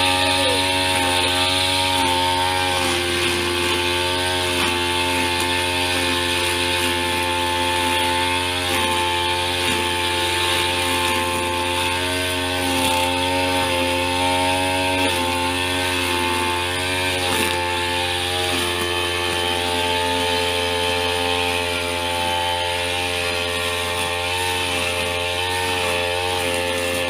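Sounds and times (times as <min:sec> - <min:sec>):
brush cutter engine cutting grass: 0:00.0 - 0:27.0.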